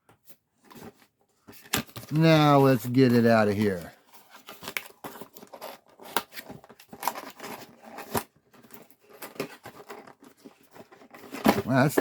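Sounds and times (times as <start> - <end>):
plastic scraping against cardboard: 0.6 - 12.0.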